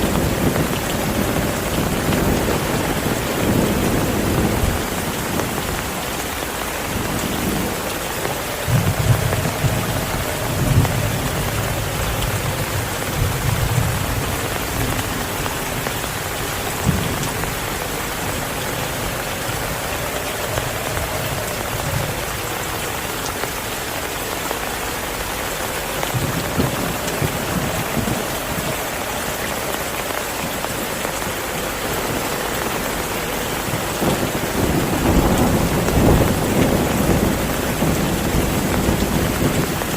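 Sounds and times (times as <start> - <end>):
thunder rumbling: 0.0 - 23.8, 25.7 - 39.9
heavy rain falling: 0.0 - 39.9.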